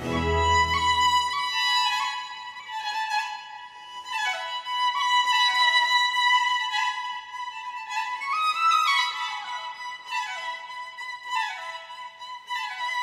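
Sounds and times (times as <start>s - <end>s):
violin and flute melody: 0.0s - 13.0s.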